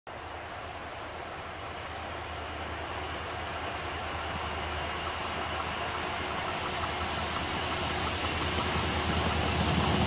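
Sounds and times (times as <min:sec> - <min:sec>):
diesel locomotive engine hum: 0:00.1 - 0:10.0
train rushing noise: 0:00.1 - 0:10.0.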